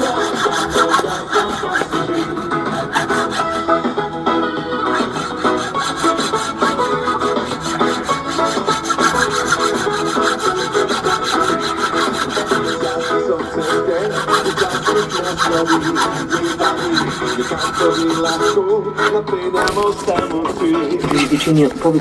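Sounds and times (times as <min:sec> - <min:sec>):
hand saw cutting bone: 0:00.0 - 0:04.0, 0:04.7 - 0:19.9
radio playing music: 0:00.0 - 0:22.0.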